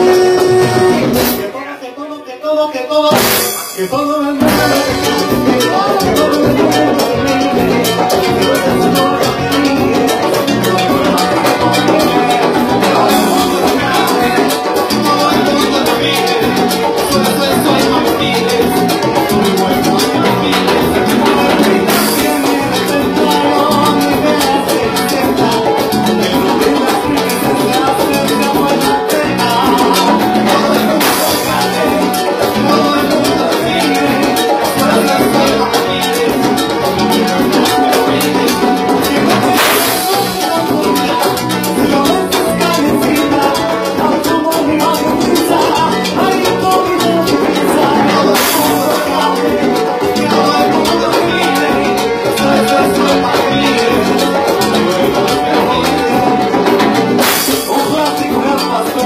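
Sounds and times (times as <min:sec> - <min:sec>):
electric guitar: 0:00.0 - 0:01.7, 0:03.1 - 0:59.0
congas: 0:00.0 - 0:59.0.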